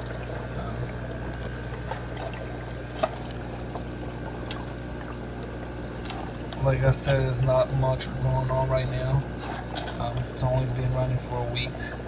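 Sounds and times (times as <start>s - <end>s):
low pump hum: 0.0s - 12.0s.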